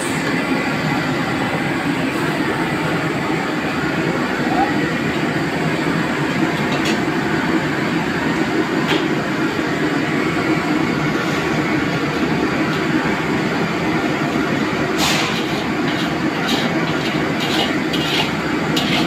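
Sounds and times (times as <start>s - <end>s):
exhaust hood roar: 0.0s - 19.0s
gas wok range roar: 0.0s - 19.0s.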